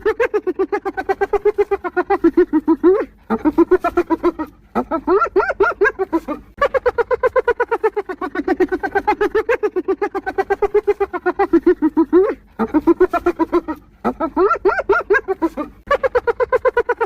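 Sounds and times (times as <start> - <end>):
hyena giggling: 0.0 - 17.0.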